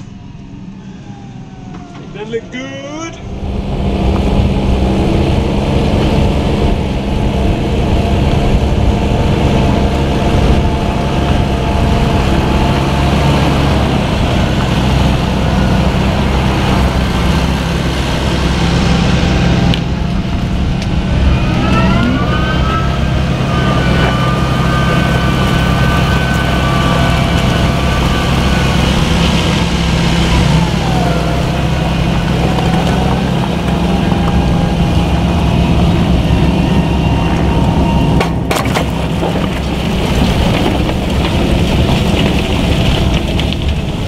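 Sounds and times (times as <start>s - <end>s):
whining tone rising in pitch: 0.0s - 39.9s
tractor diesel engine running: 0.0s - 44.0s.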